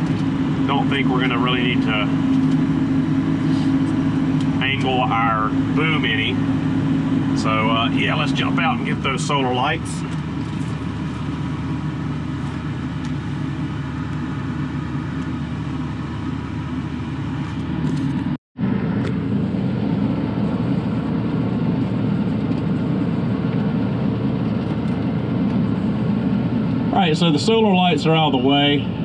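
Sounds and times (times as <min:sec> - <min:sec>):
air-conditioning fan running: 0:00.0 - 0:29.0
diesel engine idling: 0:00.0 - 0:29.0.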